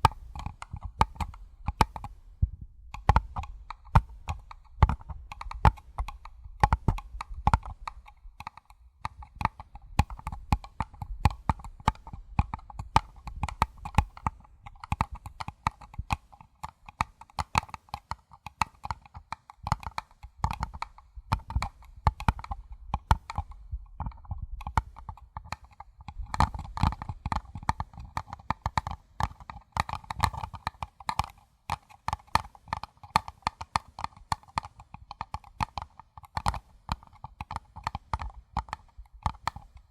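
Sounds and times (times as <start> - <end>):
fingertips tapping paper cups: 0.0 - 2.2, 2.9 - 39.9.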